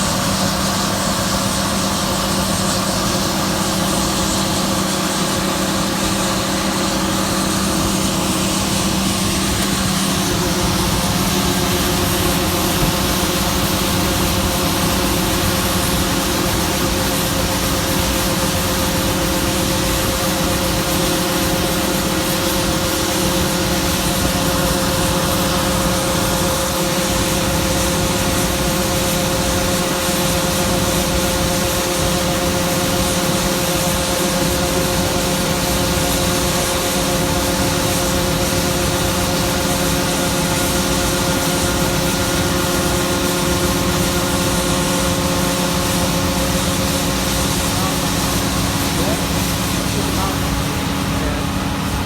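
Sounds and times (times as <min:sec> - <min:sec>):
combine harvester droning: 0:00.0 - 0:52.0.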